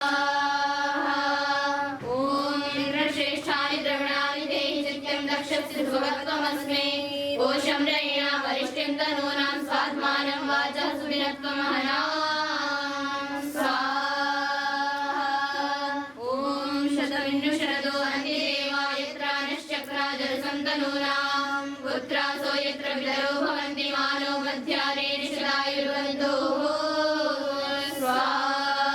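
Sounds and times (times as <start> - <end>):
girls chanting in unison: 0.0 - 28.9.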